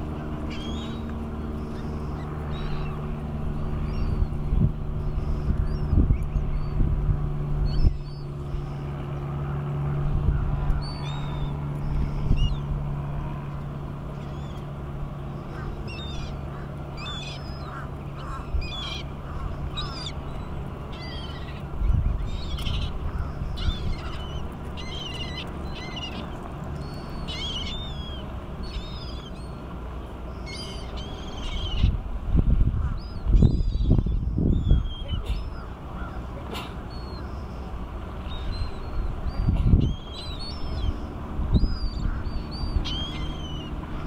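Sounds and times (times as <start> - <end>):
gulls calling: 0.0 - 44.0
steady low hum: 0.0 - 44.0.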